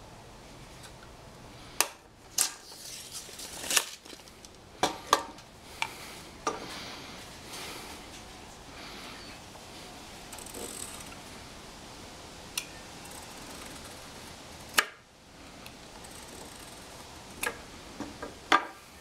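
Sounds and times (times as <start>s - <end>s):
room noise: 0.0s - 19.0s.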